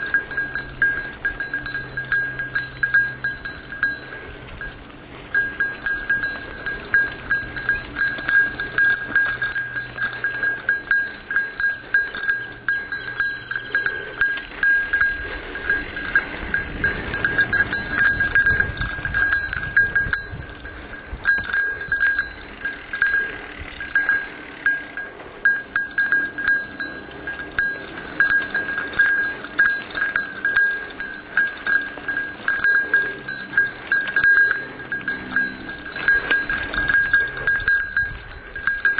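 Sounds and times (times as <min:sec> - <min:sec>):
bicycle bell ringing: 0:00.0 - 0:38.9
low rumble of riding: 0:00.0 - 0:38.9.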